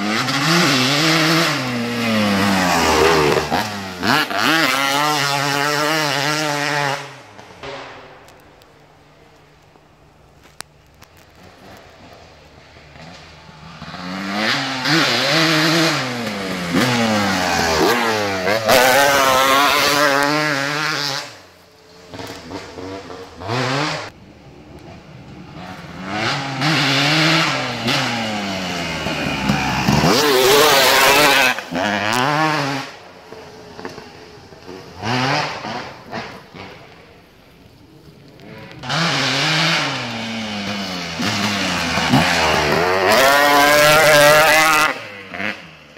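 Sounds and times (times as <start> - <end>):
dirt bike engine revving: 0.0 - 8.5, 11.4 - 24.2, 25.0 - 45.9.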